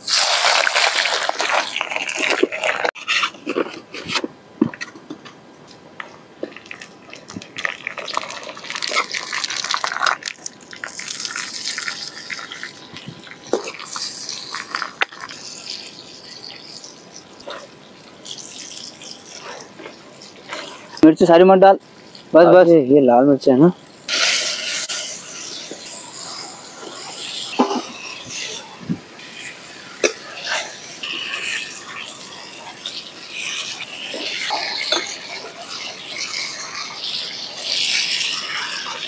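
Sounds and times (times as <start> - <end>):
onion sizzling in hot oil: 0.0 - 3.0, 6.6 - 22.6, 23.8 - 39.0.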